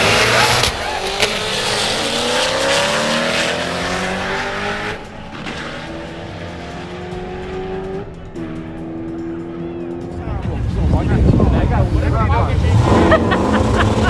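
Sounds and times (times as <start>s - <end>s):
drag racing cars accelerating: 0.0s - 14.0s.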